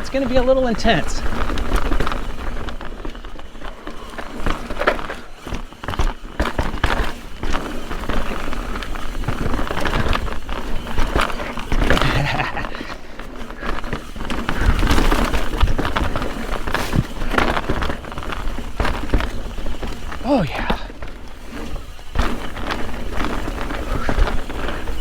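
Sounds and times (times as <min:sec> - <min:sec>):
bike rattling over bumps: 0:00.0 - 0:25.0
tyres crunching on dirt trail: 0:00.0 - 0:25.0.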